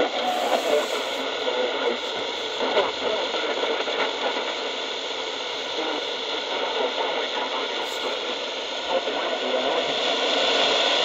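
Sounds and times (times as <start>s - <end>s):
radio static hissing: 0.0s - 11.0s.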